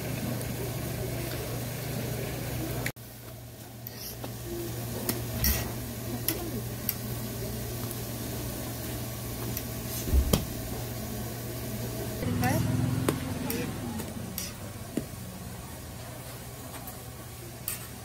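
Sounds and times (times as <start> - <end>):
pancakes sizzling on a griddle: 0.0 - 18.0.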